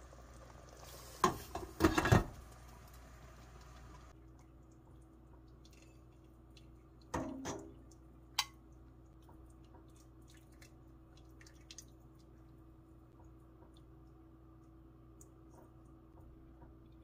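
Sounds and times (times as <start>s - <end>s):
soup dripping and splashing: 2.5s - 17.0s.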